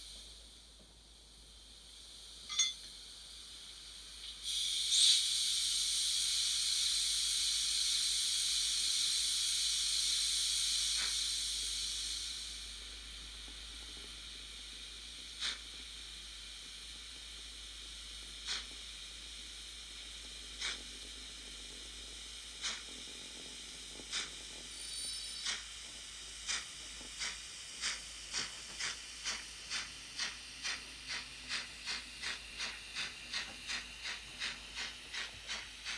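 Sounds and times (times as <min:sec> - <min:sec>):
model train steam hiss: 0:00.0 - 0:35.9
steam locomotive exhaust puffs: 0:00.0 - 0:35.9.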